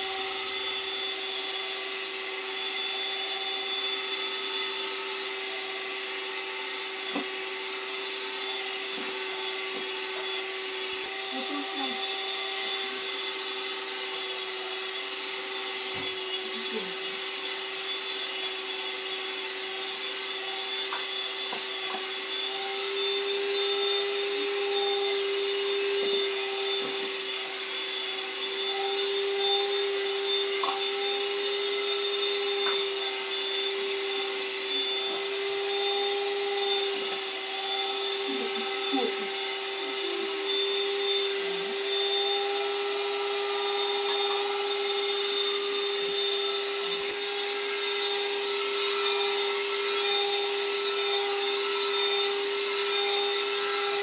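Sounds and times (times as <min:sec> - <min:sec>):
electric mixer motor whine: 0:00.0 - 0:54.0.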